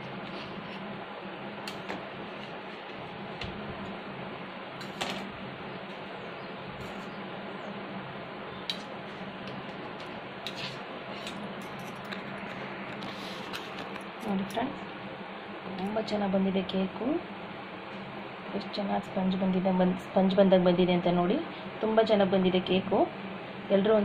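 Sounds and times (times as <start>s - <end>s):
steady hiss with low hum: 0.0s - 24.0s.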